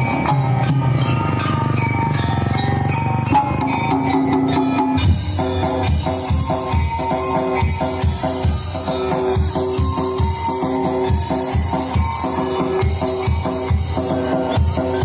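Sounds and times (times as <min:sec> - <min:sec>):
loud music with drums and bass: 0:00.0 - 0:15.0.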